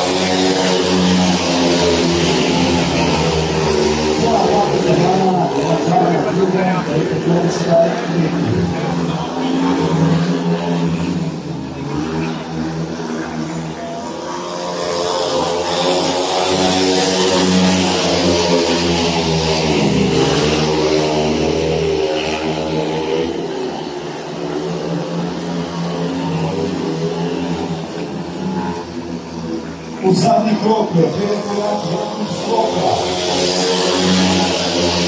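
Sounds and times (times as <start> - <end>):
motorcycles racing at full throttle: 0.0 - 35.0.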